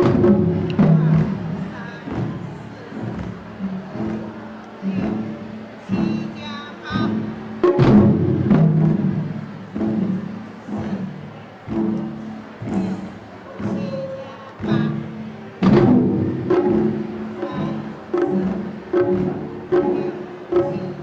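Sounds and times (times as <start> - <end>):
recorded song: 0.0 - 21.0
taiko drumming: 0.0 - 21.0.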